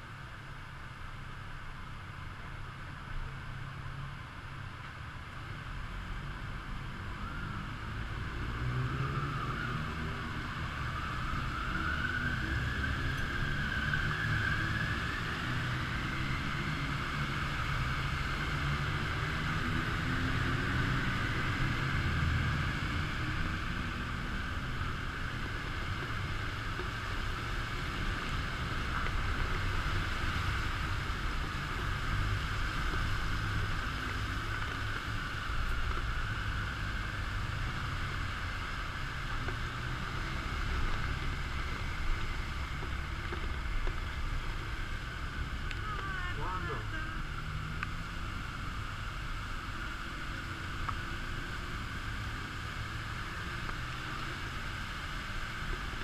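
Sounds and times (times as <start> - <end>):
wind and wet tyres hiss: 0.0 - 56.0.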